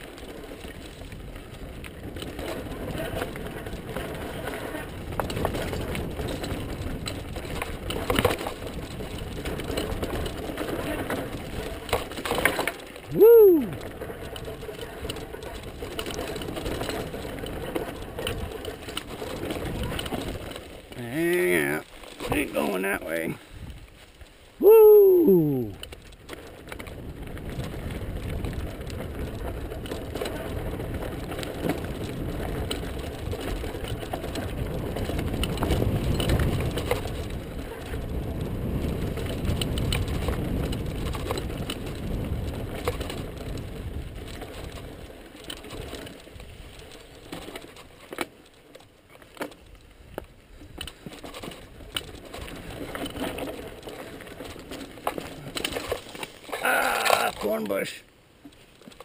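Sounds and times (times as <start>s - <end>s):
bike clicks and knocks: 0.0s - 23.4s, 25.4s - 57.8s, 58.4s - 59.0s
mountain bike tyres rumbling: 0.0s - 59.0s.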